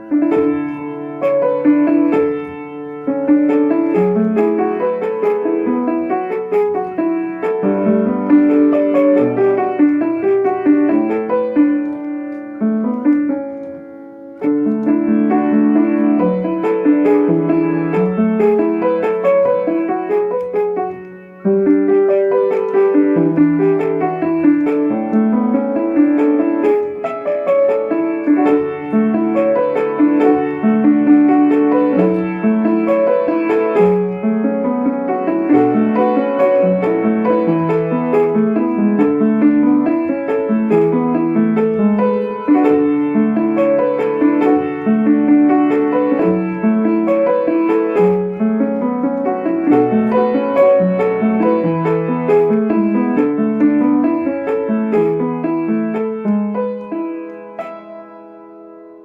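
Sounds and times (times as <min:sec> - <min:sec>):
piano broken-chord accompaniment: 0:00.0 - 0:59.0.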